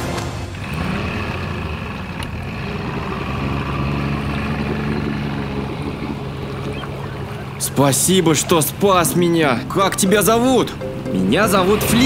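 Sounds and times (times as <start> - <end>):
motorboat engine hum: 0.4 - 12.0.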